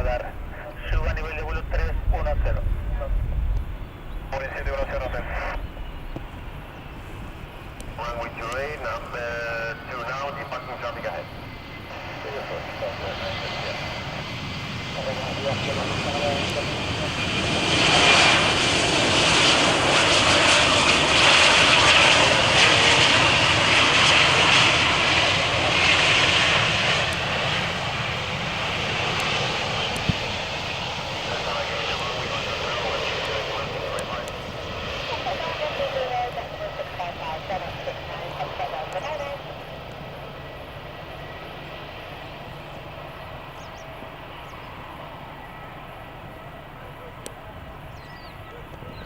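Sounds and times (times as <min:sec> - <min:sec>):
jet engines rushing: 0:00.0 - 0:49.0.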